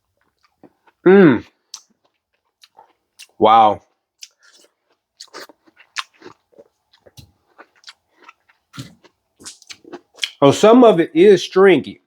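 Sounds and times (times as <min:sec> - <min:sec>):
person chewing watermelon: 0:00.0 - 0:10.4.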